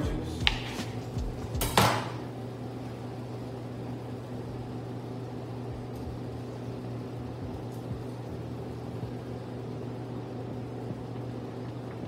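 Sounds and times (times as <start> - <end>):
kitchen equipment hum: 0.0 - 12.0.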